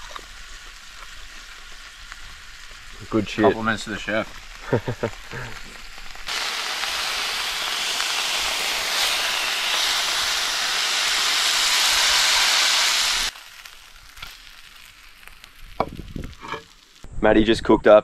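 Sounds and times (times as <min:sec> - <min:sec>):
fish sizzling in a pan: 0:00.0 - 0:17.1.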